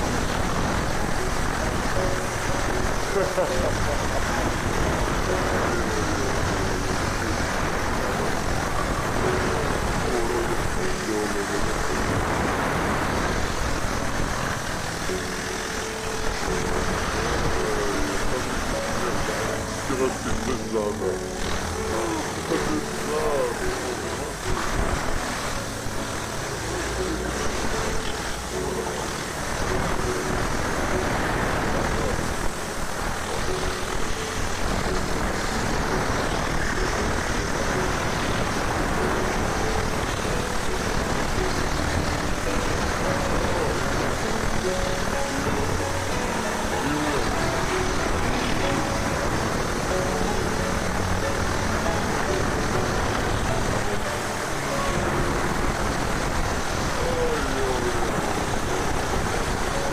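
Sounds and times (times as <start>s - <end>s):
steam cleaner jet hissing: 0.0s - 59.9s.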